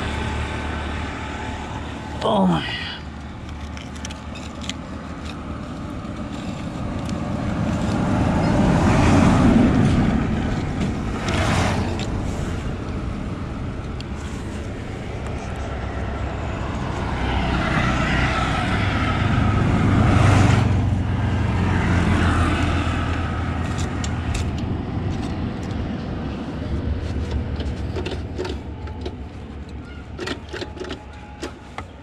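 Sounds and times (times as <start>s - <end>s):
vehicle passing with low rumble: 0.0s - 30.1s.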